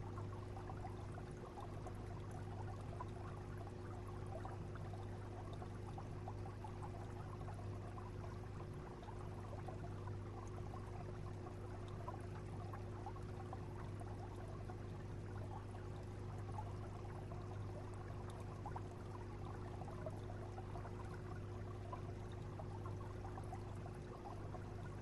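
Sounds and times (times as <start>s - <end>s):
aquarium water trickling and bubbling: 0.0s - 25.0s.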